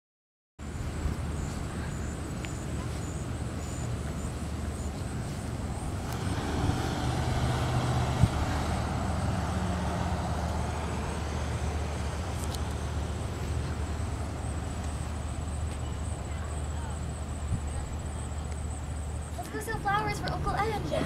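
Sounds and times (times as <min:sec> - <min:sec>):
traffic noise: 0:00.6 - 0:21.0
vehicle engine running close by: 0:00.6 - 0:21.0.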